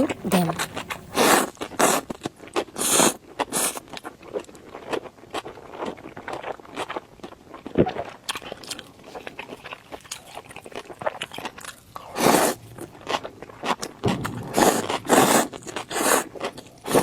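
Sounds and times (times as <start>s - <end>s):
wet chewing and smacking: 0.4s - 17.0s.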